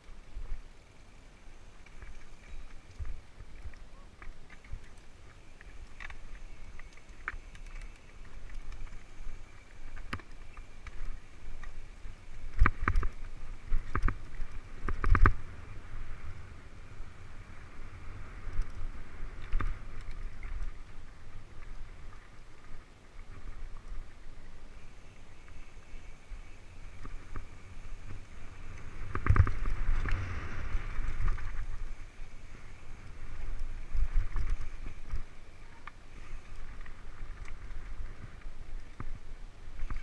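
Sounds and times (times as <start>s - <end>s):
tyre and trail noise: 0.0s - 40.0s.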